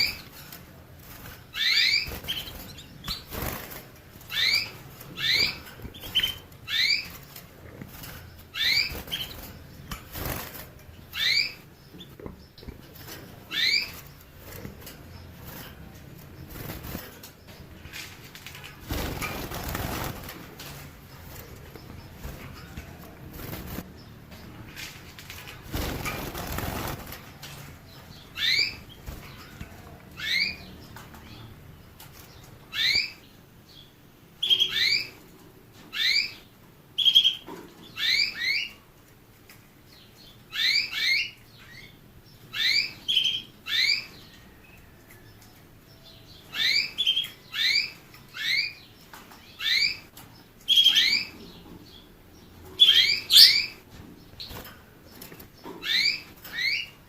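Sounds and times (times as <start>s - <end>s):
finch chirping: 0.0s - 35.2s, 35.8s - 38.8s, 39.9s - 44.4s, 45.4s - 57.0s.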